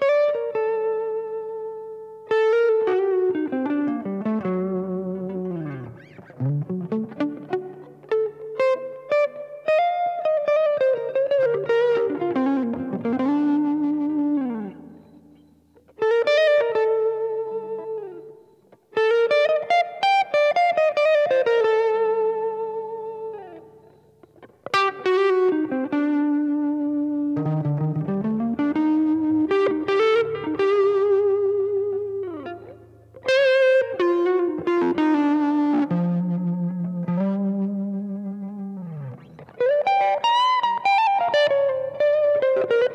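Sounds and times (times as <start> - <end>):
electric guitar melody: 0.0 - 42.9.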